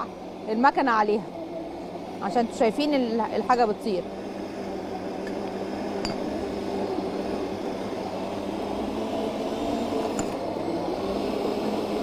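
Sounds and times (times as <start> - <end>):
stand mixer motor hum: 1.3 - 12.0.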